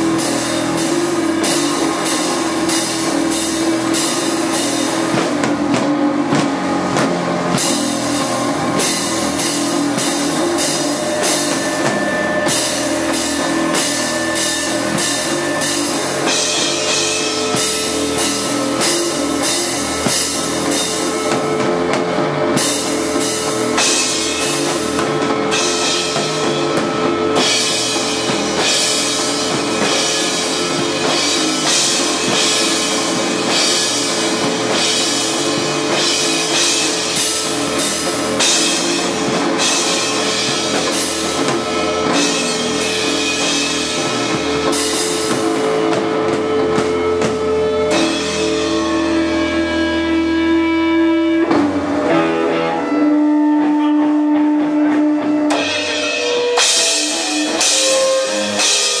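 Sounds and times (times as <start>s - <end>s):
cymbal crashes: 0.0s - 51.0s, 55.5s - 59.0s
distorted electric guitars: 0.0s - 59.0s
drum kit played hard: 0.0s - 59.0s.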